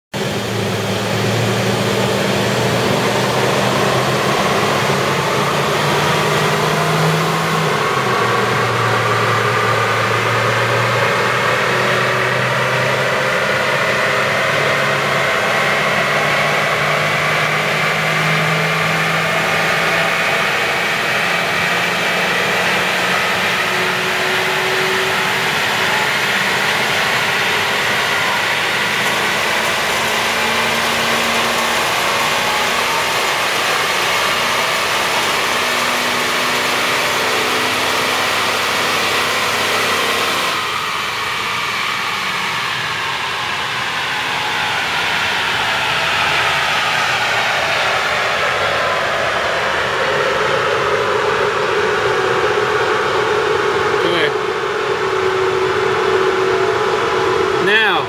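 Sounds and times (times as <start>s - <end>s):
car engine running under load: 0.1s - 58.0s
rising dynamometer whine: 0.1s - 58.0s.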